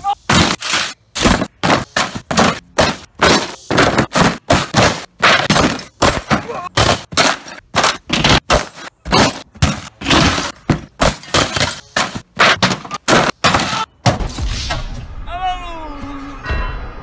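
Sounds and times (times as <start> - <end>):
body crashing through tables: 0.3 - 14.9.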